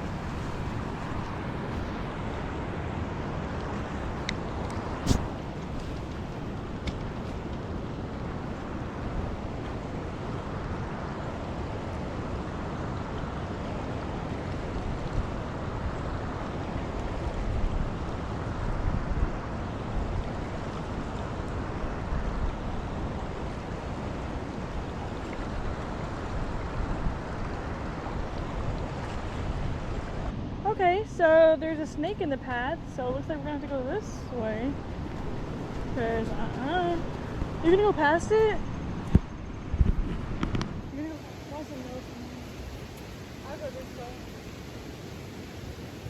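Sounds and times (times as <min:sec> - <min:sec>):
fast-flowing creek rushing: 0:00.0 - 0:39.2, 0:40.2 - 0:46.0
wind buffeting microphone: 0:00.0 - 0:46.0.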